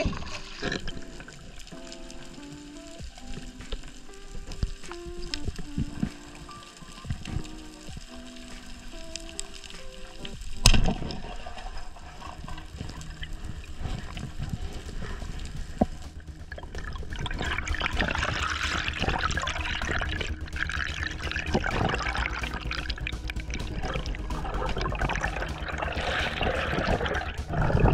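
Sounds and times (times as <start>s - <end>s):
underwater bubbling and rushing: 0.0s - 27.9s.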